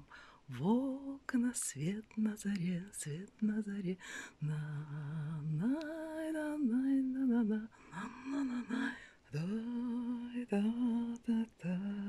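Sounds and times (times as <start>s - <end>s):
woman singing wordless tune: 0.0s - 12.0s.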